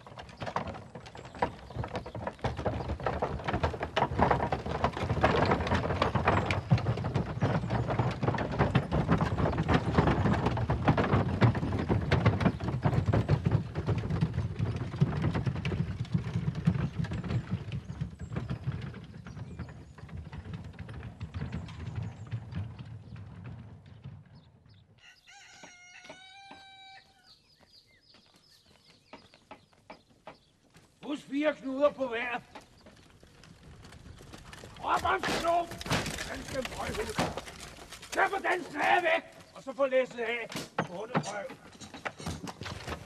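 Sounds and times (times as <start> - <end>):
horse hooves clip-clopping: 0.0 - 43.0
wooden cart wheels rattling: 0.0 - 43.0.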